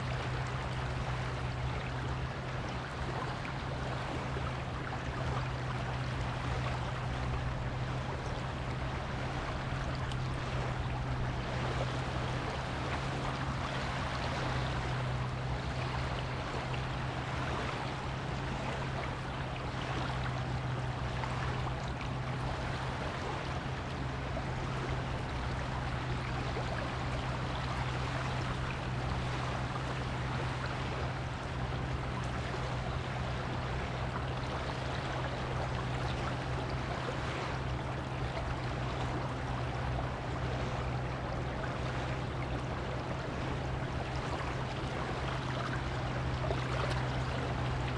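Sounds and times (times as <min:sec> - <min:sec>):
constant low hum: 0:00.0 - 0:47.9
waves washing onto beach: 0:00.0 - 0:47.9.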